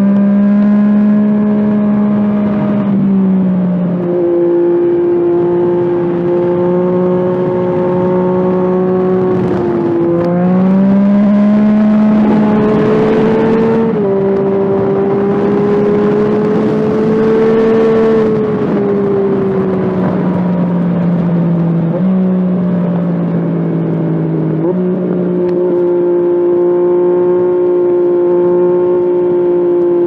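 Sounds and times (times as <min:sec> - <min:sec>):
rushing wind noise: 0:00.0 - 0:30.0.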